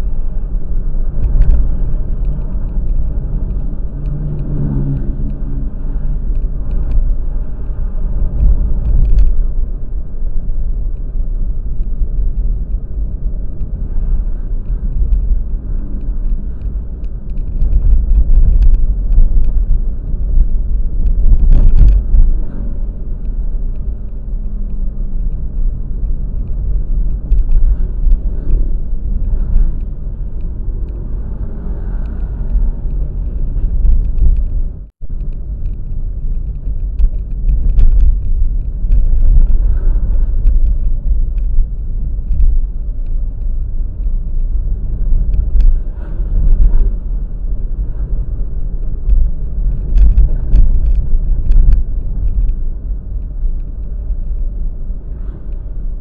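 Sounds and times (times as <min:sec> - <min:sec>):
road vehicle rumble: 0:00.0 - 0:56.0.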